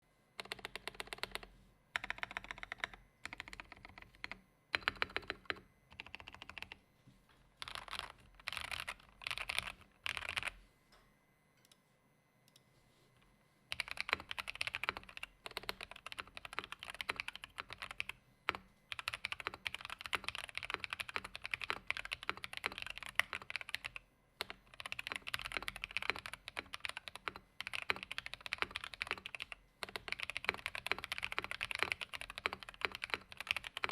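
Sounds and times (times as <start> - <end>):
mechanical keyboard typing: 0.4 - 6.8, 7.6 - 10.6, 13.7 - 33.9.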